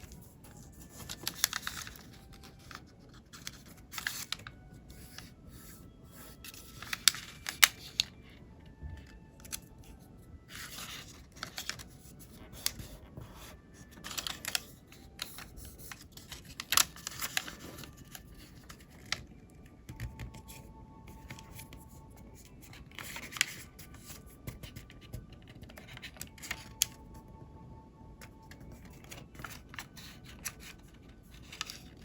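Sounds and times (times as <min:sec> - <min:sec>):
paper rustling: 0:00.0 - 0:08.2, 0:09.0 - 0:19.2, 0:19.9 - 0:27.0, 0:28.4 - 0:32.0.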